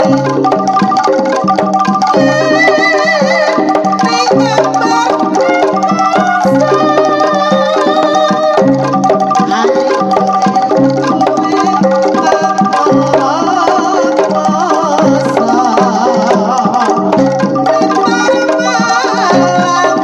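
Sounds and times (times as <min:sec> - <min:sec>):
gamelan music over loudspeakers: 0:00.0 - 0:20.0.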